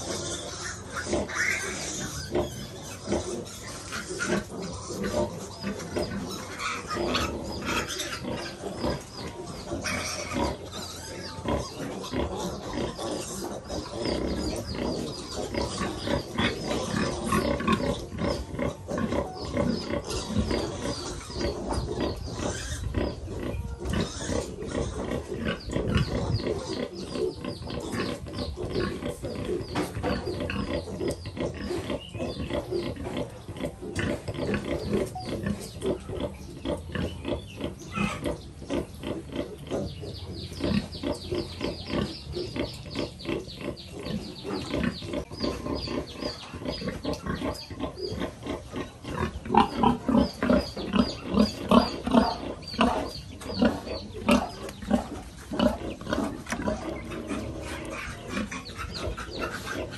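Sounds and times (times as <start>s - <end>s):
piglets squeaking: 0.0s - 59.9s
pigs grunting: 0.0s - 59.9s.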